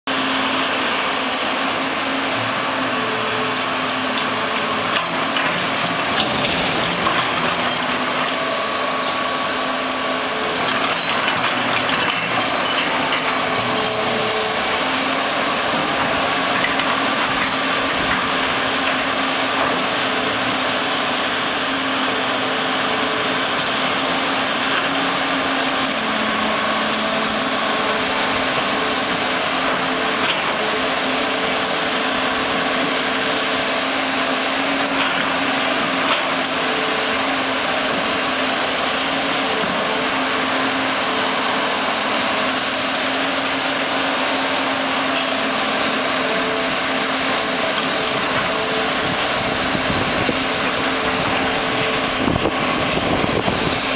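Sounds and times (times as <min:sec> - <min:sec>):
excavator engine and hydraulics: 0:00.1 - 0:53.9.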